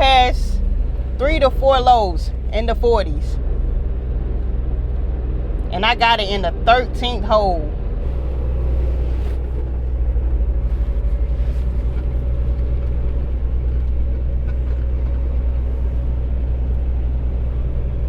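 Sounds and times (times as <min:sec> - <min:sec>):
truck diesel engine drone: 0:00.0 - 0:18.0.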